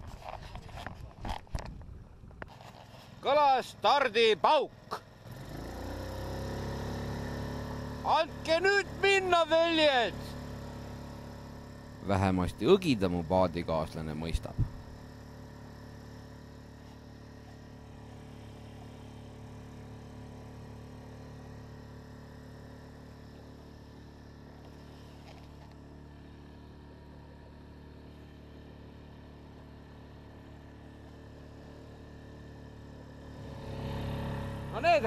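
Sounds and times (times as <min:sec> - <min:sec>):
outboard motor droning: 0:00.0 - 0:35.0.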